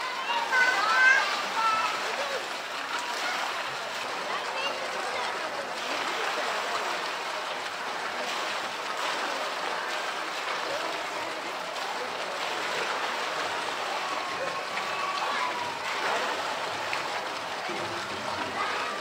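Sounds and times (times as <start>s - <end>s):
faint voices: 0.0s - 19.0s
running water rushing: 0.0s - 19.0s.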